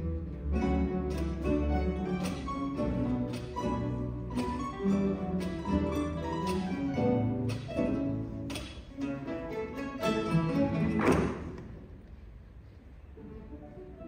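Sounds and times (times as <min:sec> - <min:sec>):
classical guitars strumming chords: 0:00.0 - 0:11.9.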